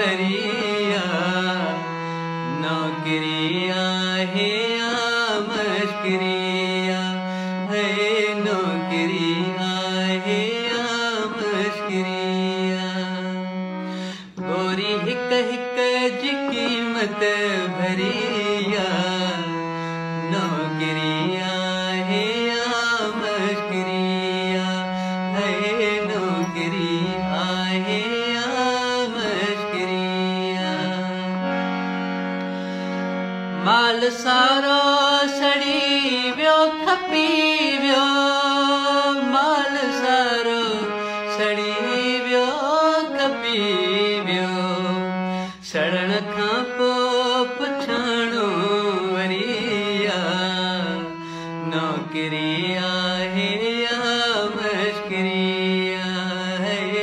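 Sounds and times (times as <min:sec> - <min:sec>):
man singing slow song: 0:00.0 - 0:57.0.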